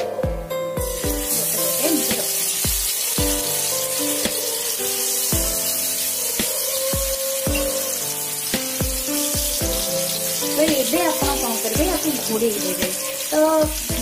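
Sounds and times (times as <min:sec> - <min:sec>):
background music with a beat: 0:00.0 - 0:12.1
wavering melody: 0:00.1 - 0:13.6
fish sizzling in hot oil: 0:00.9 - 0:14.0.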